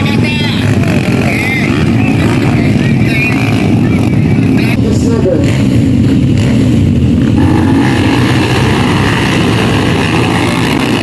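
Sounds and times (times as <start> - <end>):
dirt bike engines running: 0.0 - 11.0.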